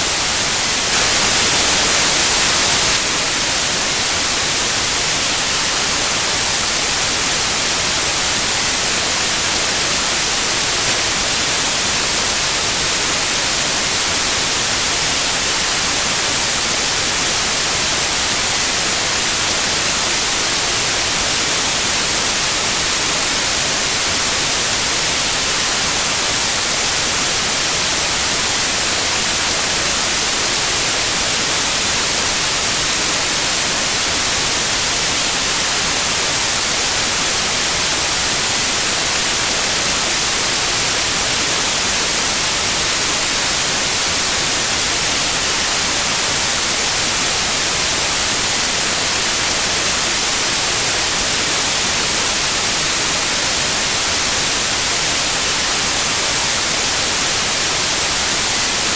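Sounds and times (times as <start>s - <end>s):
white noise hiss: 0.0s - 58.9s.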